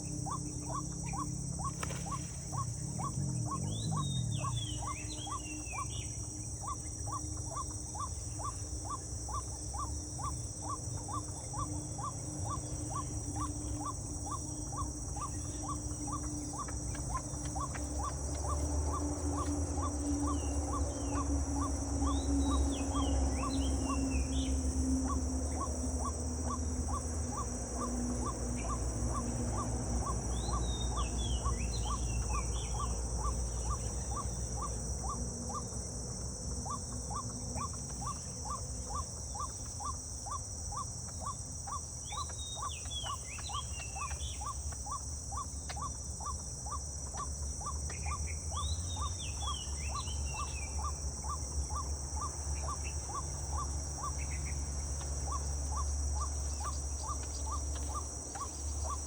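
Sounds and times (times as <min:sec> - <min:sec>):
bird chirps: 0:00.0 - 0:59.0
high-pitched insect drone: 0:00.0 - 0:59.0.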